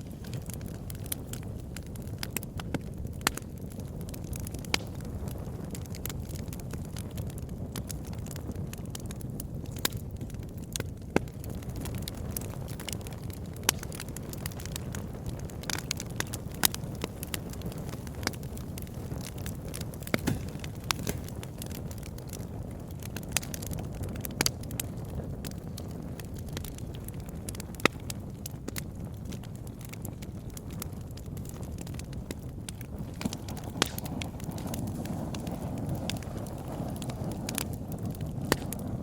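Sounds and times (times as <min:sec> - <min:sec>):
wood crackling in campfire: 0:00.0 - 0:39.0.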